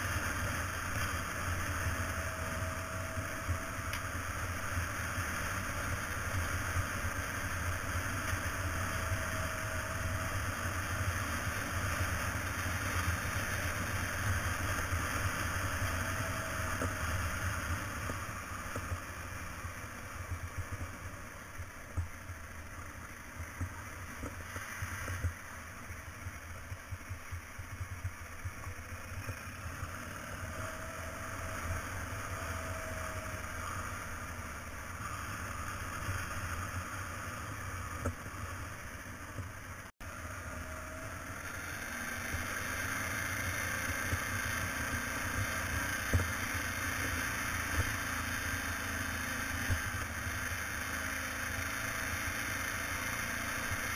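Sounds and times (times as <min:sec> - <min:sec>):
motorcycle engine: 0:00.0 - 0:53.9.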